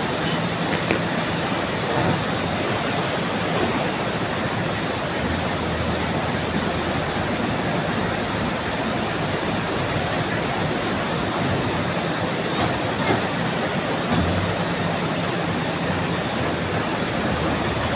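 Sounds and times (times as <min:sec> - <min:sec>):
faint diesel engine hum: 0:00.0 - 0:17.9
fast-flowing water roaring: 0:00.0 - 0:17.9.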